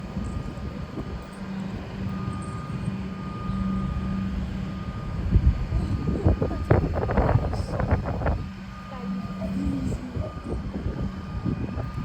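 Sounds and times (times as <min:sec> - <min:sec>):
electric train rumble: 0:00.0 - 0:12.0
low hum: 0:00.0 - 0:12.0.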